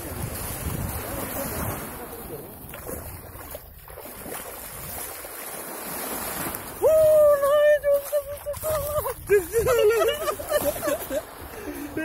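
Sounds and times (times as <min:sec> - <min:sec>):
small waves breaking: 0:00.0 - 0:12.0
wind on microphone: 0:00.0 - 0:12.0.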